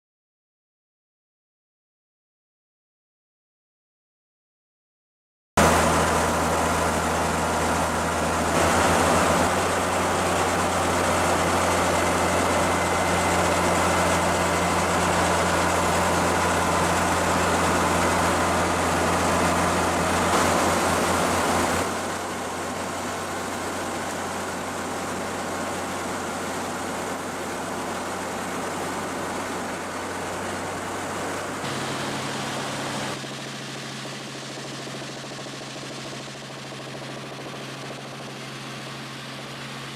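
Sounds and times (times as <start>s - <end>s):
helicopter engine and rotor: 5.6s - 39.9s.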